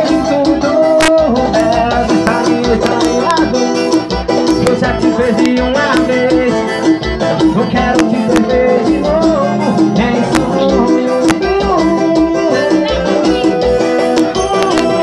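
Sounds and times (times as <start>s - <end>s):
man singing into a microphone: 0.0s - 15.0s
upbeat latin dance music: 0.0s - 15.0s.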